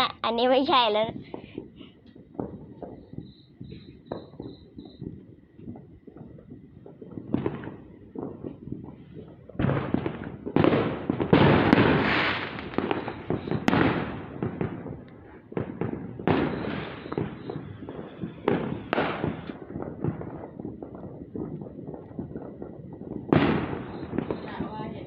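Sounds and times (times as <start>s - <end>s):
bangs and crackling pops: 0.0s - 25.0s.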